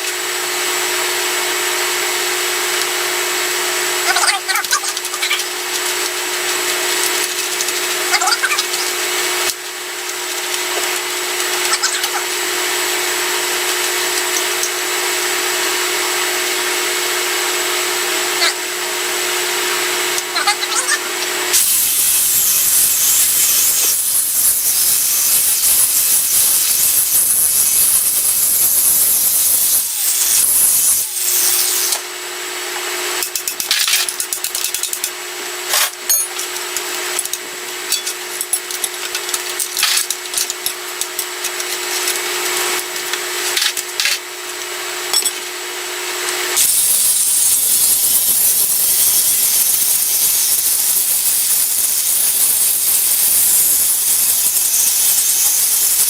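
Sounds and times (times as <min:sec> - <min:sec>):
tool motor whine: 0:00.0 - 0:56.0
wire wheel scrubbing metal: 0:02.0 - 0:15.9, 0:20.2 - 0:32.0, 0:35.7 - 0:45.4, 0:46.4 - 0:56.0.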